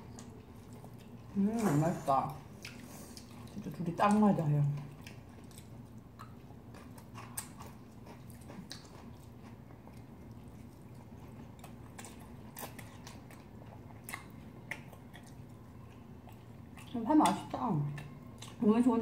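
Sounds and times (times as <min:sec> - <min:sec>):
people chewing wet mouth sounds: 0:00.0 - 0:01.4, 0:02.3 - 0:19.0
faint steady hum: 0:00.0 - 0:19.0.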